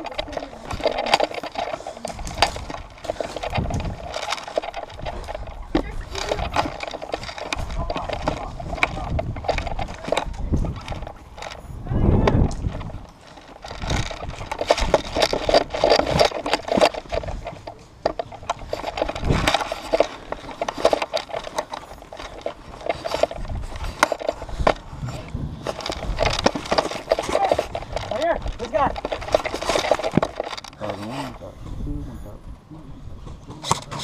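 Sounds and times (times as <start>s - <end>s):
footsteps on dirt and grass: 0.0s - 31.0s
gear rattling: 0.0s - 31.5s.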